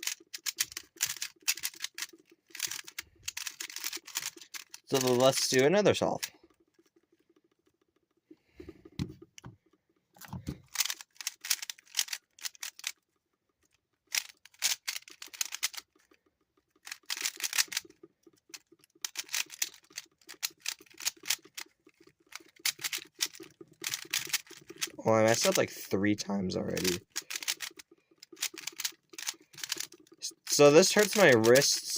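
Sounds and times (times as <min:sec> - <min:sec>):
puzzle cube clicking: 0:00.0 - 0:07.8, 0:10.2 - 0:13.0, 0:13.6 - 0:31.9.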